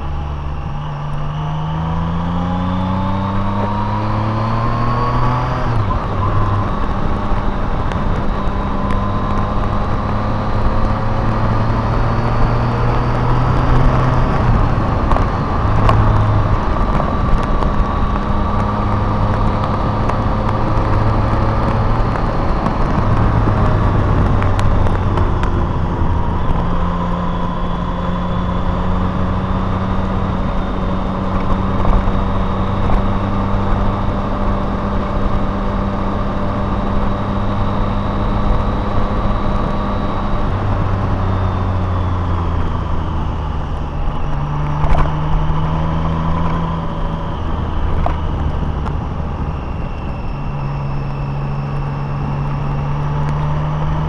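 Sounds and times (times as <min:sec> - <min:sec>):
car engine accelerating: 0:00.0 - 0:54.0
road and tyre noise: 0:00.0 - 0:54.0.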